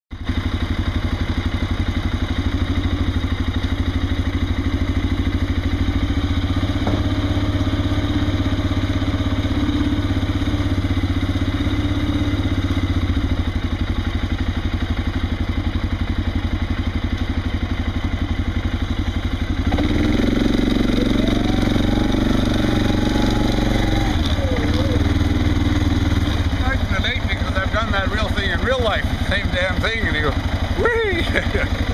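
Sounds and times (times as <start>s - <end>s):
tractor engine idling: 0.1s - 31.9s.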